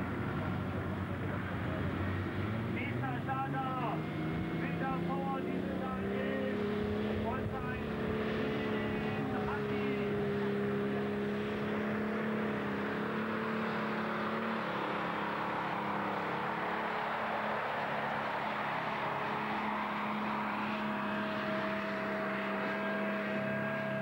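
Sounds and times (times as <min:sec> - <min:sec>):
diesel engine at high revs: 0:00.0 - 0:24.0.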